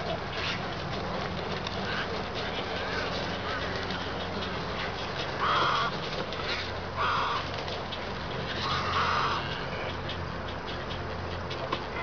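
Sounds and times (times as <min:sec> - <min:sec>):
herons squawking: 0:00.0 - 0:12.0
steady low hum: 0:00.0 - 0:12.0.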